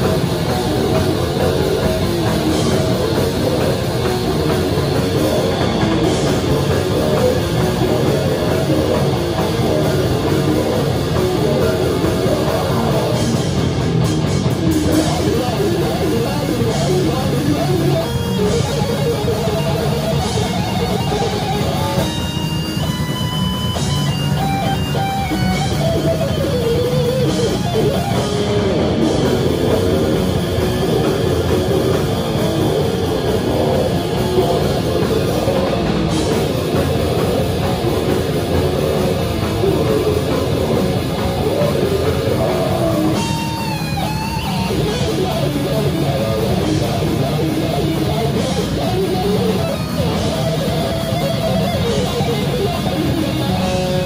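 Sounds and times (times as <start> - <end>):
lead guitar with bent notes: 0.0 - 54.0
live metal band playing: 0.0 - 54.0.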